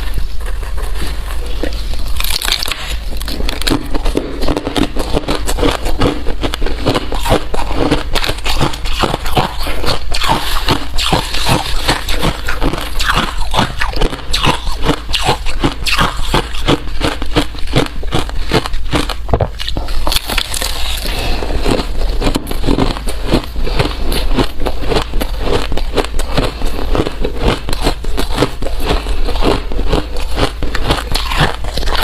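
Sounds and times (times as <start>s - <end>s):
ice crunching while chewed: 0.0s - 32.0s.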